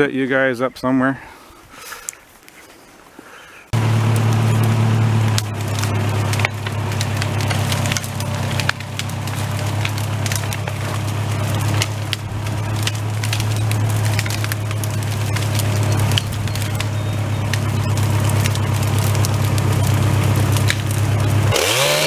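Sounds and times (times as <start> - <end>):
machine engine running: 3.8 - 22.0
wood cracking and snapping: 3.8 - 22.0.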